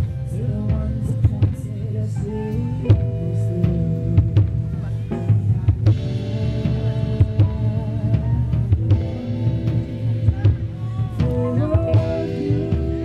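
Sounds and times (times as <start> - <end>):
drum kit: 0.0 - 13.0
guitars: 0.0 - 13.0
keyboard: 0.0 - 13.0.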